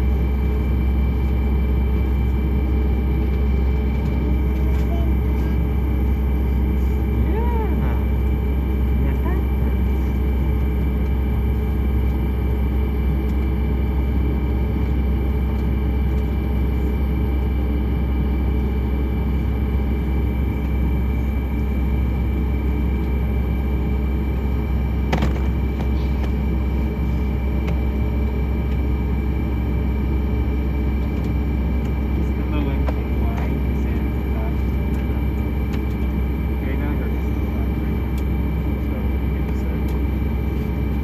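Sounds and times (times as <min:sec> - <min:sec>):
deep cabin rumble: 0:00.0 - 0:41.0
high engine whine: 0:00.0 - 0:41.0.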